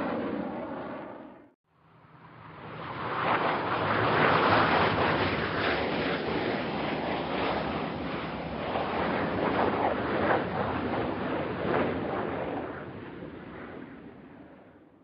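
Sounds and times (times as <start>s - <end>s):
jet aircraft roar: 0.0s - 14.7s.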